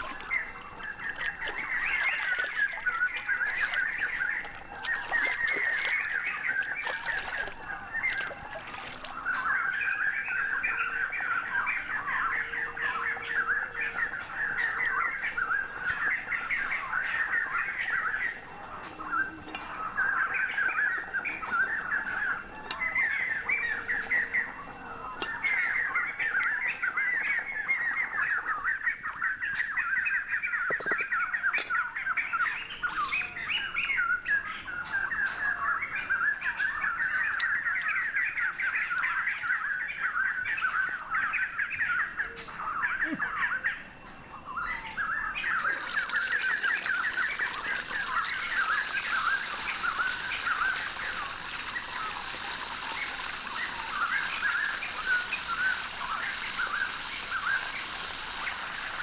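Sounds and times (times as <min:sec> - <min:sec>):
birds chattering: 0:00.0 - 0:59.0.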